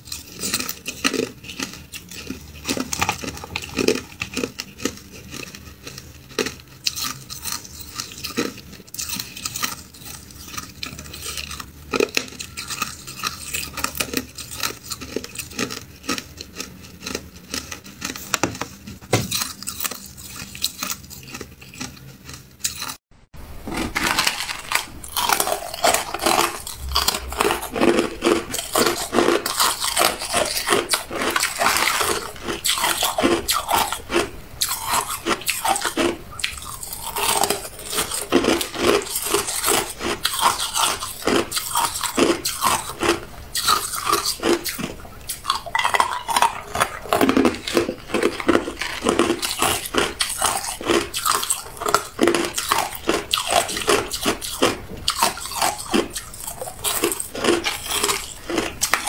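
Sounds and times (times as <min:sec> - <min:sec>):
ice crunching in mouth: 0:00.0 - 0:23.0, 0:23.6 - 0:59.0.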